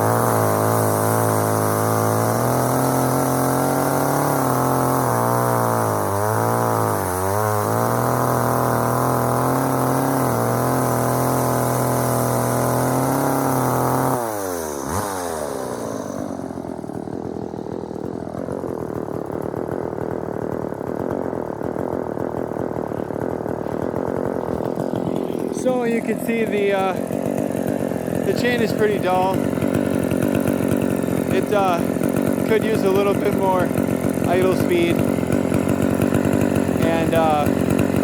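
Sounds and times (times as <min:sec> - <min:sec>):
chainsaw engine revving and idling: 0:00.0 - 0:38.0.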